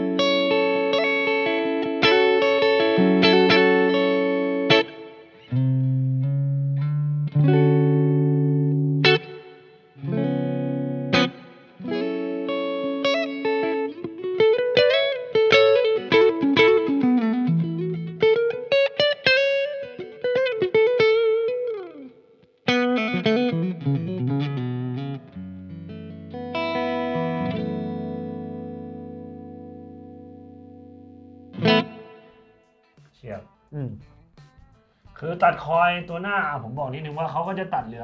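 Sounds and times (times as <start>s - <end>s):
clean electric guitar playing: 0.0s - 38.0s.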